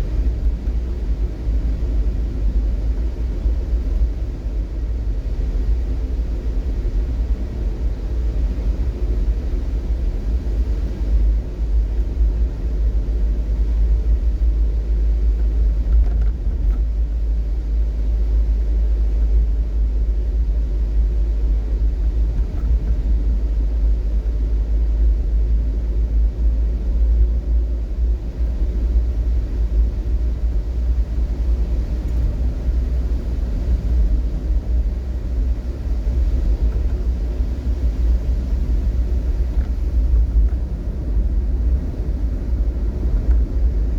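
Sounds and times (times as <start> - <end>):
vehicle road and engine rumble: 0.0 - 43.9.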